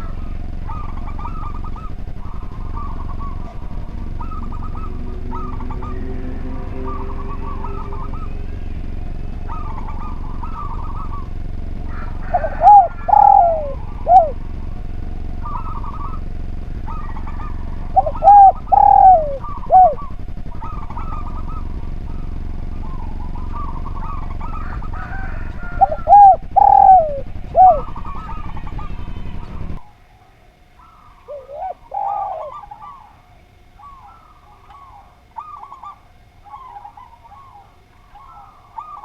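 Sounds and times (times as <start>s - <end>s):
dove cooing: 0.0s - 39.0s
faint bird trills: 0.0s - 39.0s
steady hum: 0.0s - 39.0s.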